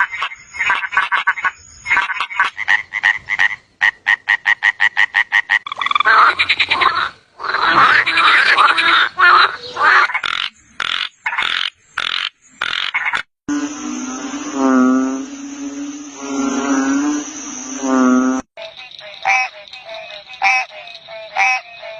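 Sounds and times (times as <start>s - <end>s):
frogs croaking: 0.0s - 21.9s.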